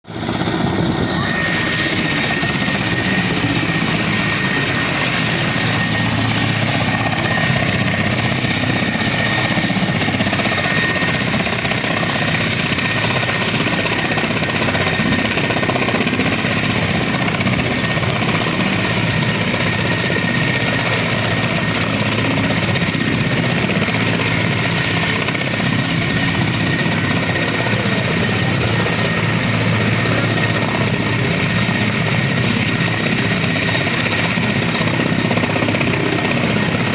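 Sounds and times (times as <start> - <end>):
helicopter rotor and engine: 0.1 - 36.9.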